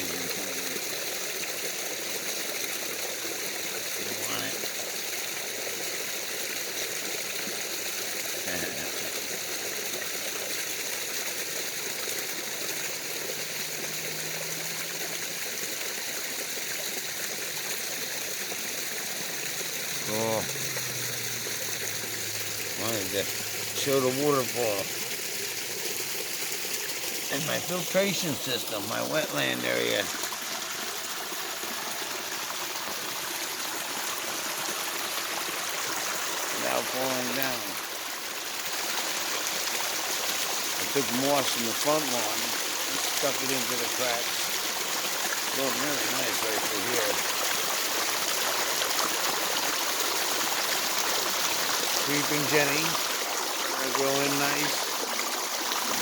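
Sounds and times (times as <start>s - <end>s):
water running over rocks: 0.0s - 56.0s.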